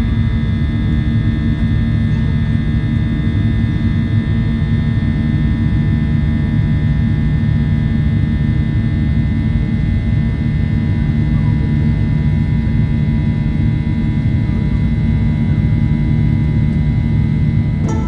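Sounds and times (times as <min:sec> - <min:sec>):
jet engine rumble in cabin: 0:00.0 - 0:18.0.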